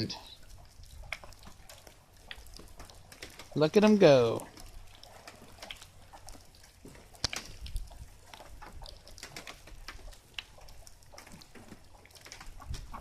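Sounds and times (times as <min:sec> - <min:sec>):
ducks splashing in water: 0:00.0 - 0:13.0.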